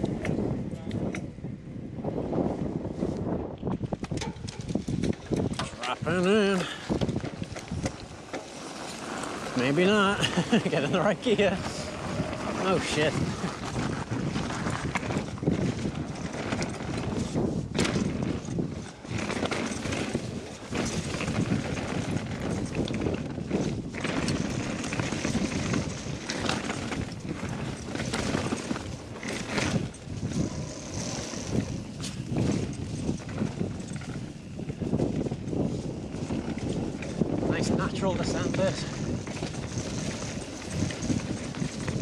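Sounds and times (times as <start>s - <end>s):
bike knocking and rattling: 0.0s - 1.4s, 3.2s - 42.0s
bike tyres on gravel: 2.1s - 42.0s.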